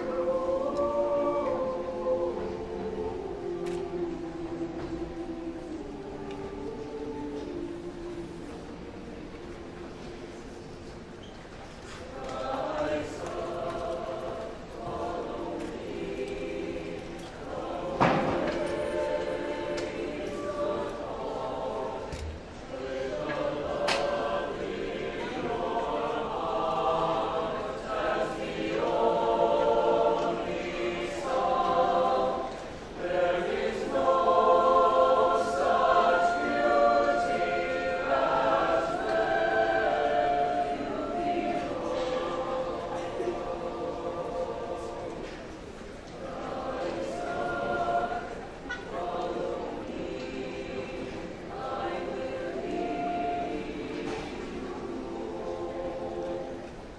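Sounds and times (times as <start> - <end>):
choir singing held notes: 0.0 - 56.9.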